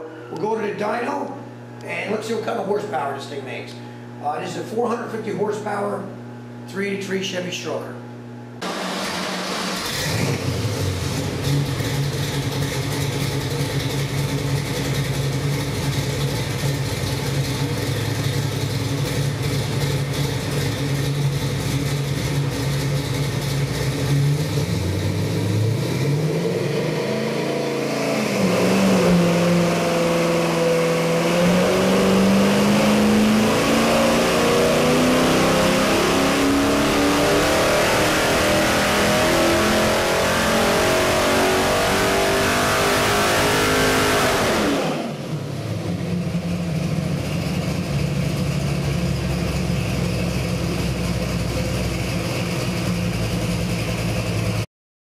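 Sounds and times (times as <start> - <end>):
engine revving on dyno: 8.6 - 54.7.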